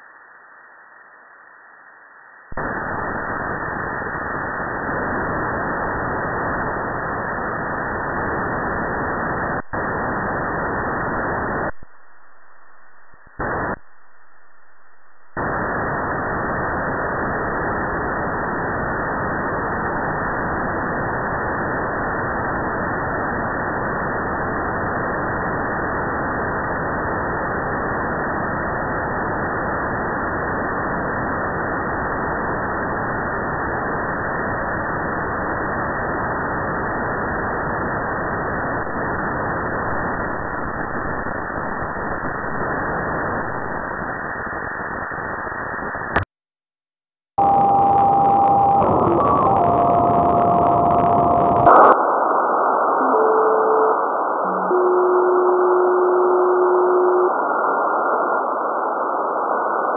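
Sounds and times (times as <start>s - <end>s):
radio static hiss: 0.0s - 46.4s, 47.4s - 59.9s.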